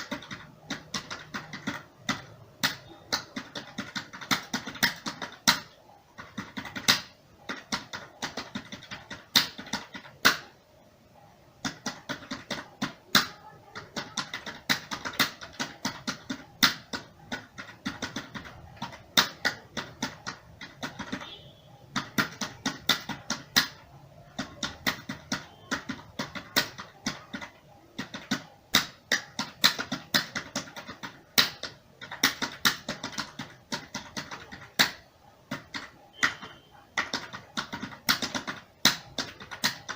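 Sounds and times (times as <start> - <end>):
typing on computer keyboard: 0.0 - 10.6, 11.2 - 39.9.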